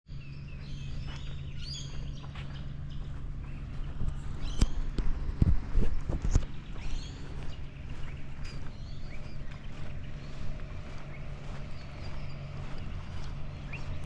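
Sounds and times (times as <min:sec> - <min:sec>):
birds chirping: 0:00.1 - 0:14.0
steady low hum: 0:00.1 - 0:14.0.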